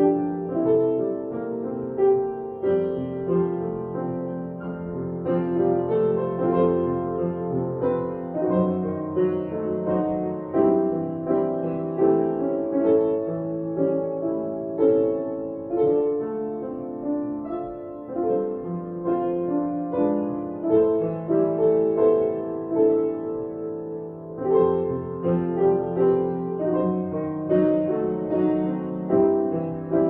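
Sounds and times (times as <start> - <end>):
slow piano music: 0.0 - 30.0.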